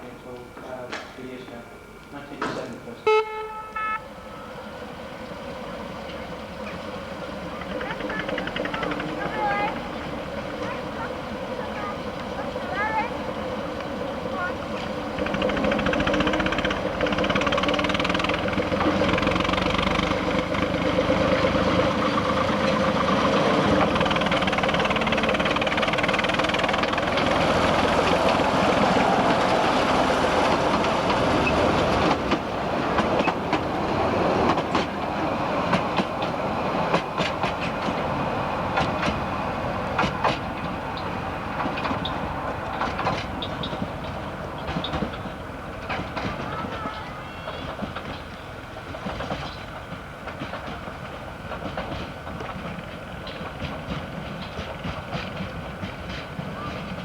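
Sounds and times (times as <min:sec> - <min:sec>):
wheels and couplings clanking: 0:00.0 - 0:03.1, 0:06.0 - 0:57.0
train rumbling on track: 0:00.0 - 0:57.0.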